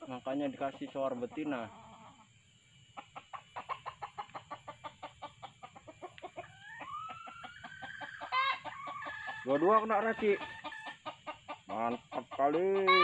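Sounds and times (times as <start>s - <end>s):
junglefowl clucking: 0.0s - 13.0s.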